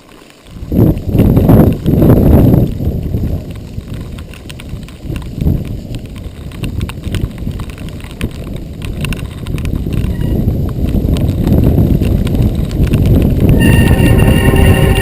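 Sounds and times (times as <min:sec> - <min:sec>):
mountain bike rattling on dirt trail: 0:00.0 - 0:15.0
wind buffeting microphone: 0:00.5 - 0:15.0.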